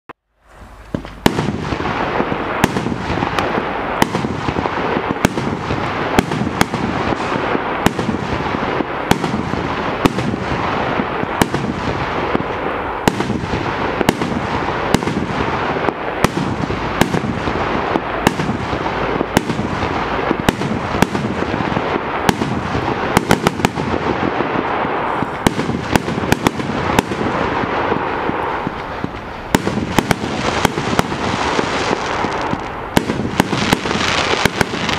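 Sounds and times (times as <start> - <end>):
fireworks crackle: 0.3 - 34.9
fireworks sharp reports: 0.4 - 34.9.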